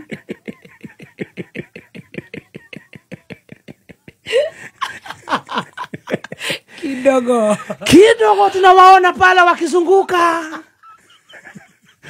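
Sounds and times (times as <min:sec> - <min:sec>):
man laughing: 0:00.0 - 0:08.7, 0:10.0 - 0:12.0.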